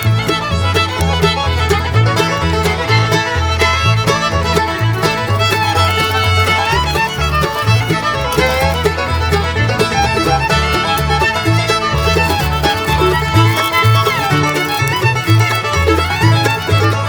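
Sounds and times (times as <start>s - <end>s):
fiddle tune: 0.0s - 17.0s
pulsing bass line: 0.0s - 17.0s.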